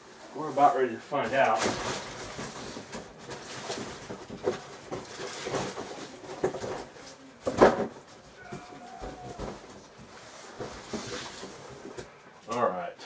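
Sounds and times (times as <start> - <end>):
packaging rustling and crinkling: 1.2 - 12.2.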